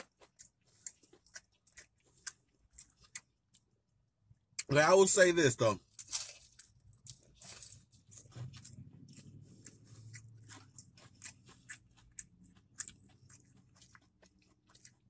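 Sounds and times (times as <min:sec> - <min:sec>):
chewing crispy fried chicken: 0:00.0 - 0:15.0.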